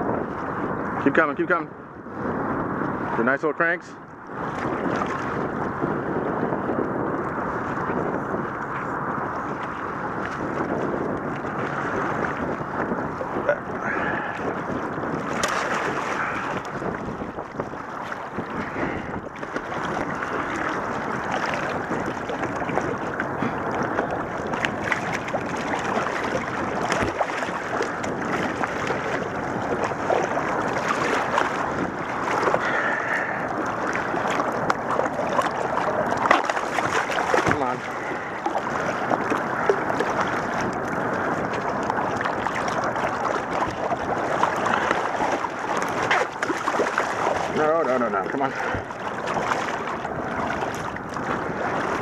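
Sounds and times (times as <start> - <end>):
wind on microphone: 0.0 - 52.0.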